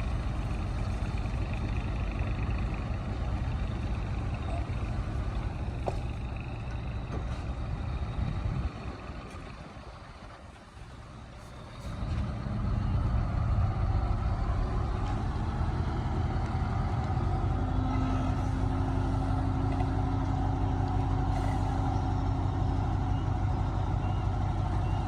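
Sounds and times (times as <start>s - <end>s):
heavy diesel engine rumbling: 0.0s - 25.0s.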